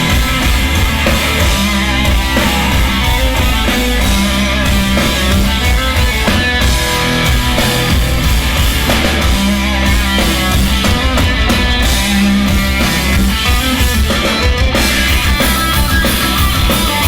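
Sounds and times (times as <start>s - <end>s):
punk rock band playing live: 0.0s - 17.0s.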